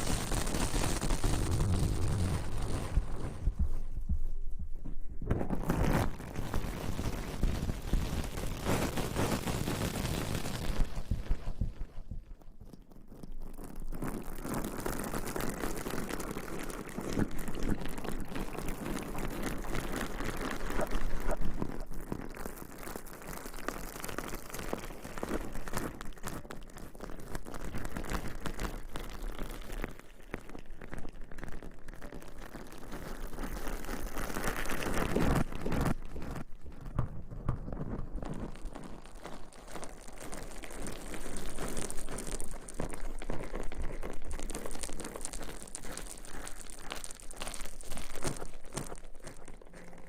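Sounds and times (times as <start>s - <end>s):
close rustling crackling hiss: 0.0s - 50.0s.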